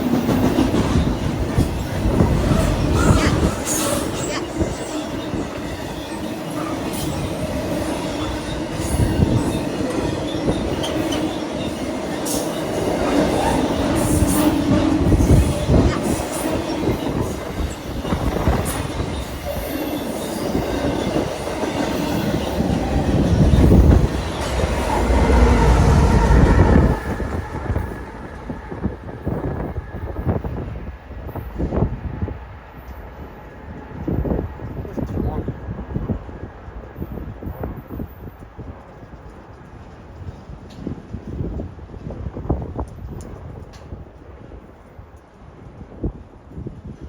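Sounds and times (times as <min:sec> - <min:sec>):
freight train rolling past: 0:00.0 - 0:46.5.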